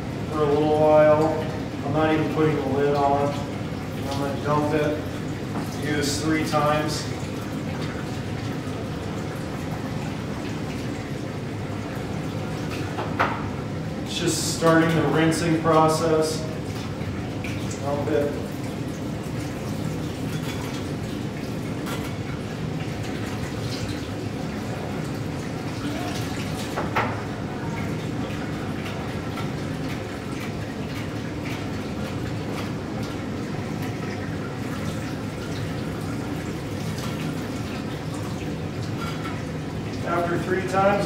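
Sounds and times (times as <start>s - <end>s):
water running and splashing: 0.0s - 41.0s.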